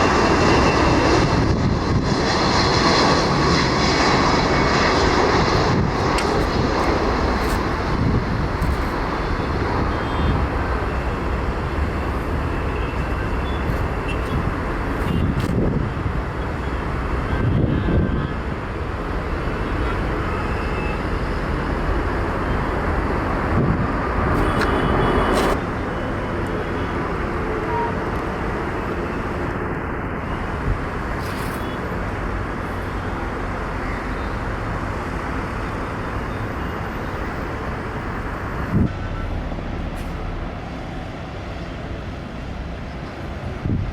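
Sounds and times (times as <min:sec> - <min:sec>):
jet engines rumbling: 0:00.0 - 0:43.9
road traffic noise: 0:00.0 - 0:43.9.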